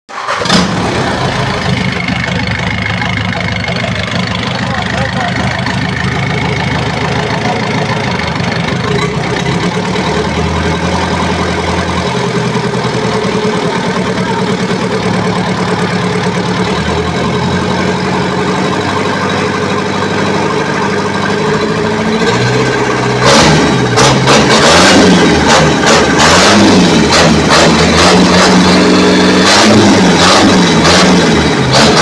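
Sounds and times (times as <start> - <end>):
truck engine idling: 0.2 - 32.0.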